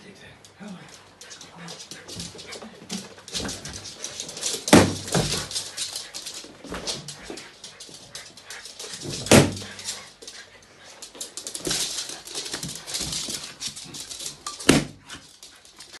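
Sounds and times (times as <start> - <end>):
dogs scratching and scraping: 0.5 - 16.0.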